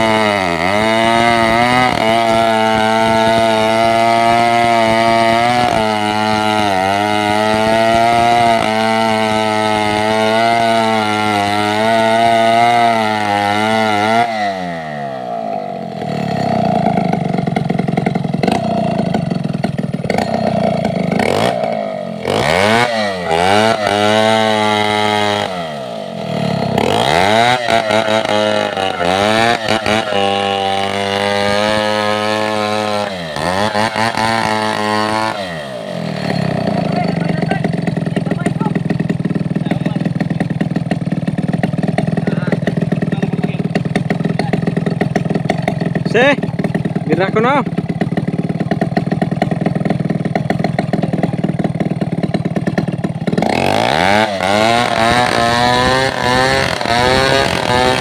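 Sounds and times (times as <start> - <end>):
chainsaw engine running at high revs: 0.0 - 58.0.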